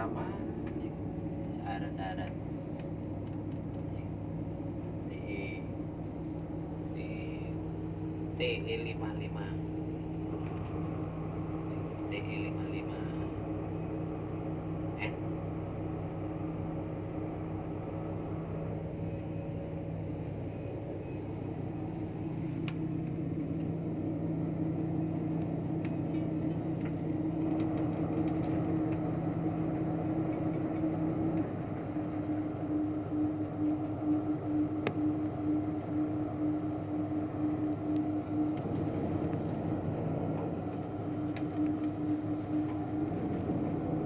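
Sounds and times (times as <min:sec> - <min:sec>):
machinery humming: 0:00.0 - 0:44.0.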